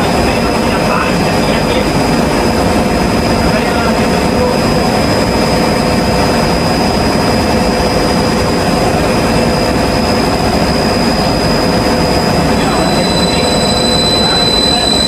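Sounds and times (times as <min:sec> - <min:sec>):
industrial machinery drone: 0:00.0 - 0:15.0
thin high whine: 0:00.0 - 0:15.0.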